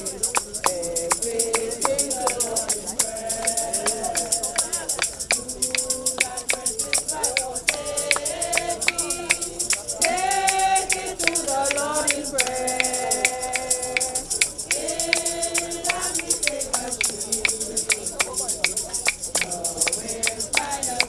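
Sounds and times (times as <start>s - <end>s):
group singing a gospel hymn: 0.0s - 21.0s
tambourine shaken on a beat: 0.0s - 21.0s.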